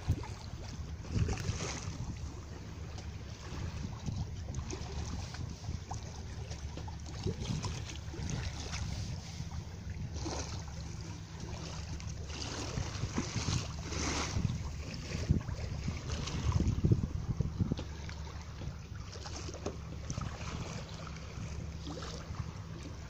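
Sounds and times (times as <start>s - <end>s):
water splashing along hull: 0.0s - 23.0s
wind buffeting microphone: 0.0s - 23.0s.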